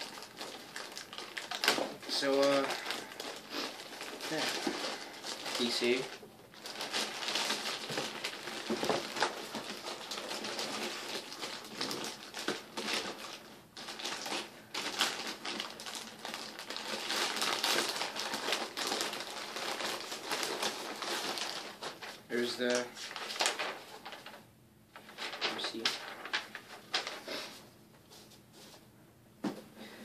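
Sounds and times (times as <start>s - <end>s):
packaging crinkling: 0.0s - 24.4s, 25.0s - 27.3s.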